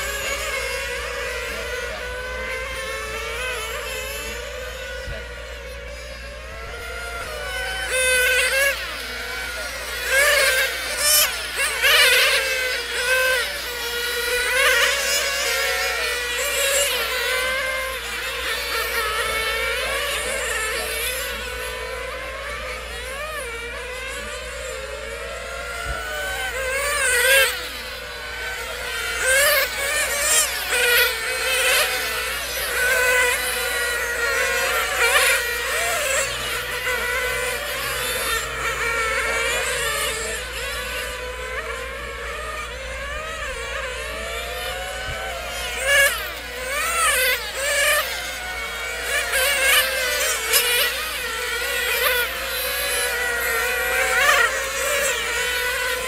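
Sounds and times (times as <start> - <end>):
remote control car engines whining: 0.0 - 56.0.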